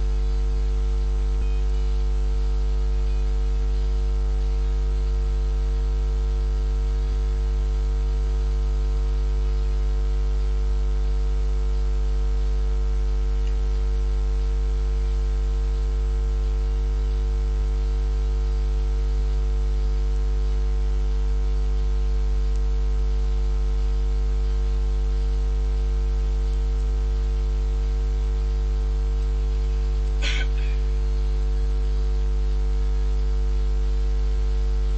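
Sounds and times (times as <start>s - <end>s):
electrical mains hum: 0.0s - 34.9s.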